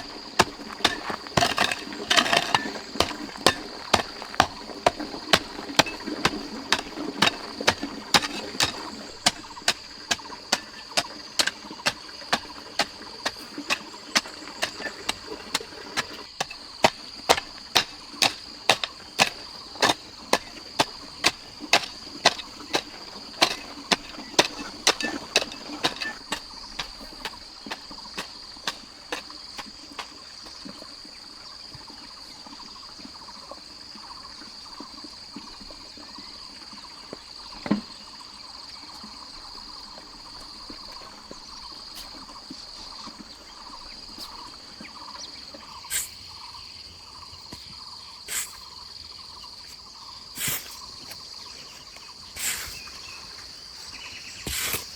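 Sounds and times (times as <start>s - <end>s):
high insect drone: 0.0s - 54.9s.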